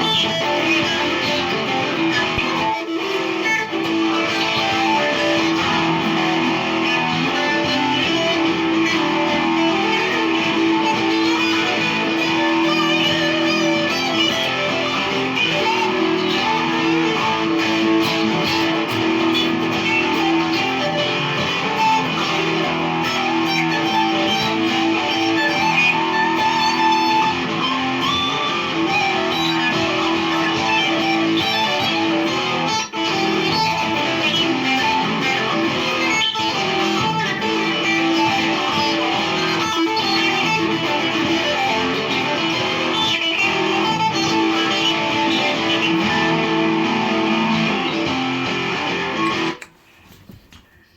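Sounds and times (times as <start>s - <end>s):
electric guitar riff: 0.0s - 49.7s.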